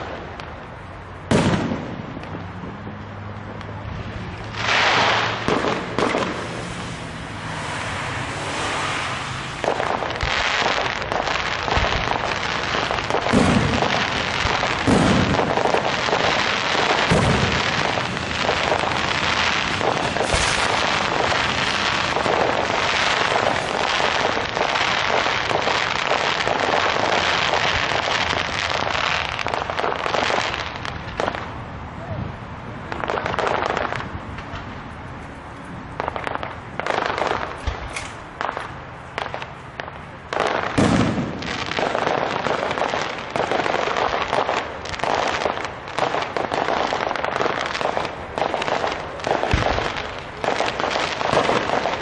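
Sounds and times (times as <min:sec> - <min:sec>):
fireworks crackling and popping: 0:00.0 - 0:52.0
fireworks booms: 0:01.2 - 0:03.0, 0:04.4 - 0:07.6, 0:08.4 - 0:32.2, 0:36.0 - 0:52.0.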